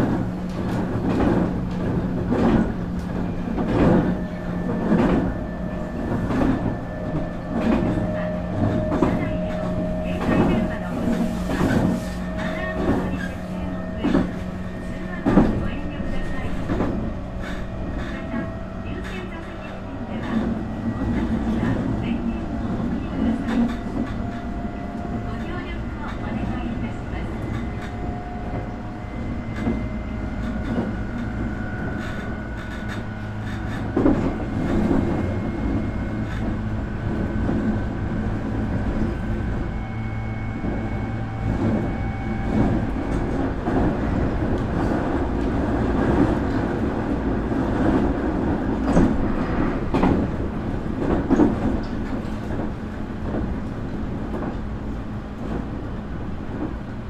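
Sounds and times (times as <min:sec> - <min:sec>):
clacks over rail joints: 0:00.0 - 0:39.6, 0:40.6 - 0:57.0
train wheels rumbling on rail: 0:00.0 - 0:57.0.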